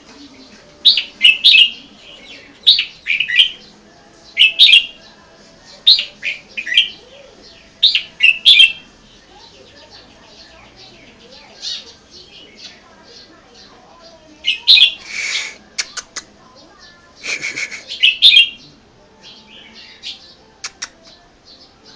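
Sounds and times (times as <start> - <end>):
bird chirping song: 0.0 - 21.9.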